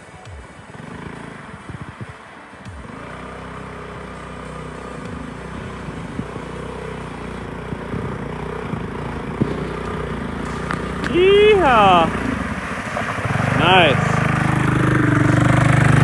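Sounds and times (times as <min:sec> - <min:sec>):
small engine running: 0:00.3 - 0:16.0.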